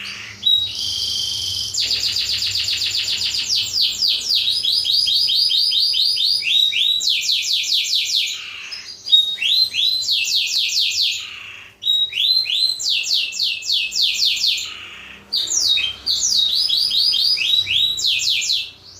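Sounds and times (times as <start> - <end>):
canary singing trills: 0.0 - 18.9.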